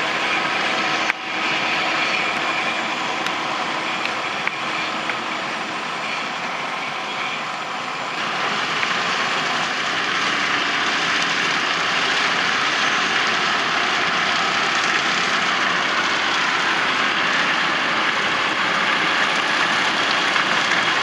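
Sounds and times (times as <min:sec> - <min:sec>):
tractor and harvester running: 0:00.0 - 0:21.0.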